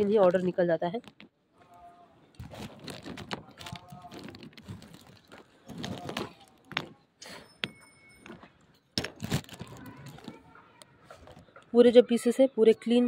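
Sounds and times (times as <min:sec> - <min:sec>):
clay lumps clicking and knocking: 0:00.0 - 0:11.7.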